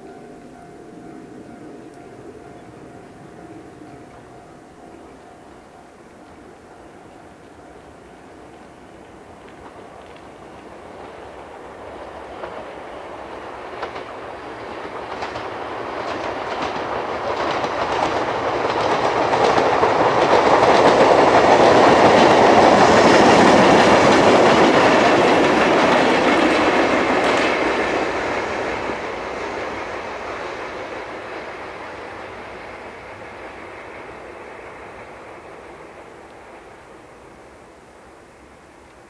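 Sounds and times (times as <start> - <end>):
train wheels clicking over rail joints: 0.0 - 37.4
electric train passing: 0.0 - 39.0.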